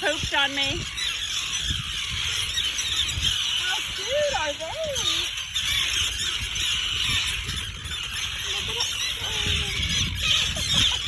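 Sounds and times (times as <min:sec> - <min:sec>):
terns calling harshly: 0:00.0 - 0:11.0.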